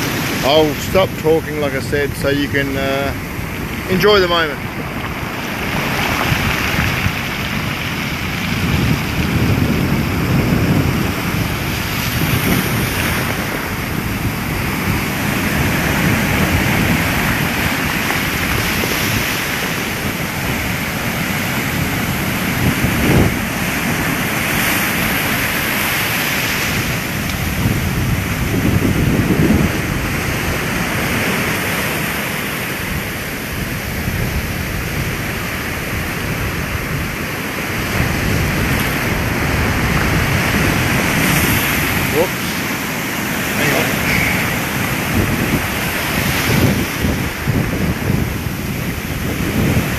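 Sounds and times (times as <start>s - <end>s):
storm waves breaking: 0.0s - 49.9s
wind buffeting microphone: 0.0s - 49.9s.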